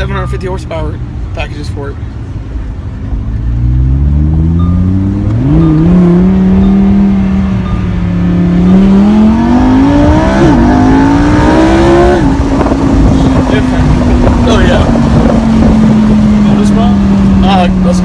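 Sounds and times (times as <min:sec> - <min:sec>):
sports car engine accelerating: 0:03.0 - 0:18.0.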